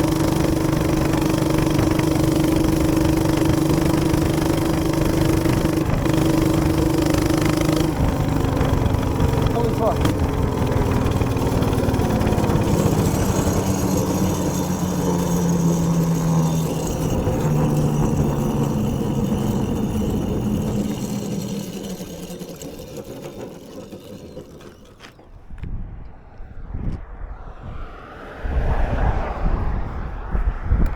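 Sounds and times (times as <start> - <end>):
minibike engine running: 0.0 - 25.6.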